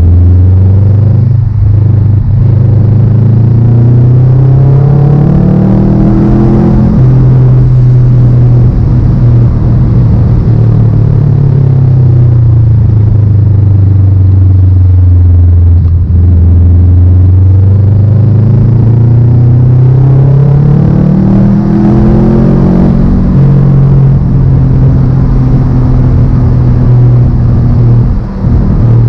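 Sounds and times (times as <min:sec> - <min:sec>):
car engine and exhaust running: 0:00.0 - 0:29.0.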